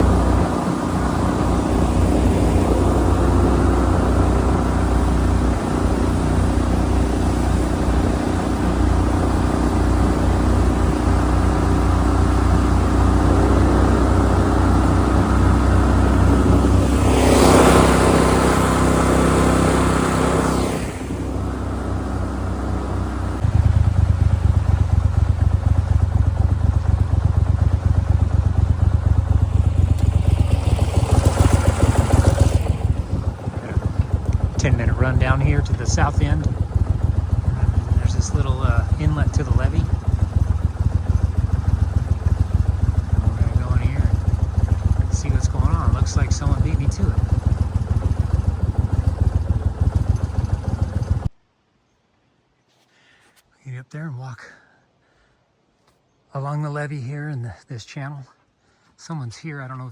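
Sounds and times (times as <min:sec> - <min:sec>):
boat motor running: 0:00.0 - 0:51.3.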